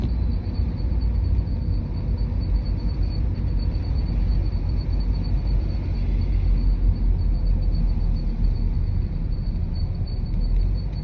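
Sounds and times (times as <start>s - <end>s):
car road and engine rumble: 0.0s - 11.0s
high-pitched pulsing tone: 0.0s - 11.0s.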